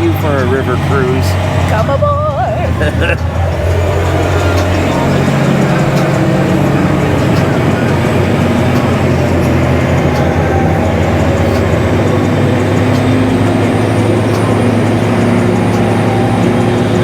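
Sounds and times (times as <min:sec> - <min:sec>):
ferry engine drone: 0:00.0 - 0:17.0.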